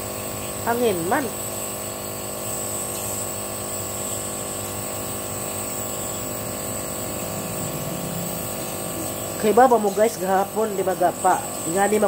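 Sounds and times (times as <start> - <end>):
nebulizer compressor humming: 0.0 - 12.0.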